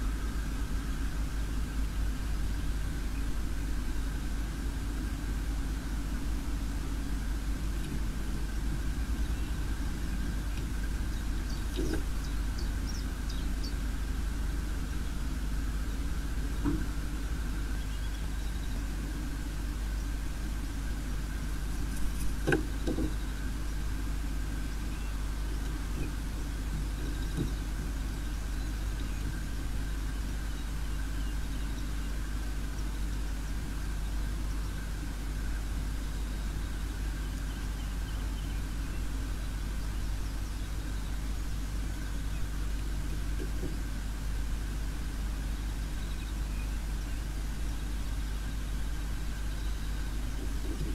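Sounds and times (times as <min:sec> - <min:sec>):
faint steady whine: 0:00.0 - 0:50.9
low microphone rumble and hum: 0:00.0 - 0:50.9.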